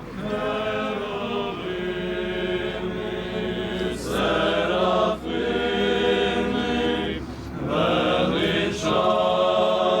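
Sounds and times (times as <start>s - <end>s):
choir chanting: 0.2s - 10.0s.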